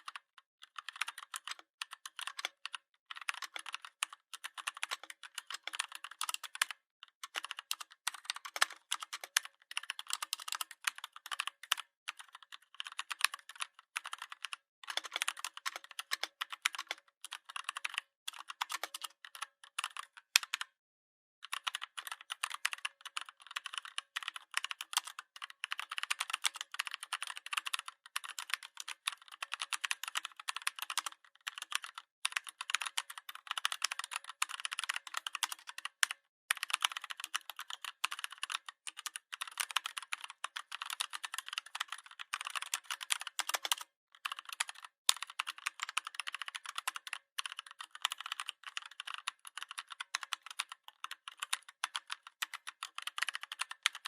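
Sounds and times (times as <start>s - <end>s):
fast typing on keyboard: 0.0s - 20.8s, 21.4s - 54.0s.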